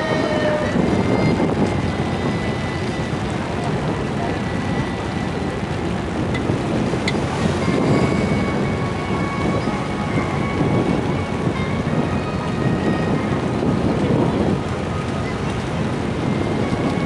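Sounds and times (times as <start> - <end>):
faint steady tones: 0.0 - 17.0
wind buffeting microphone: 0.0 - 17.0.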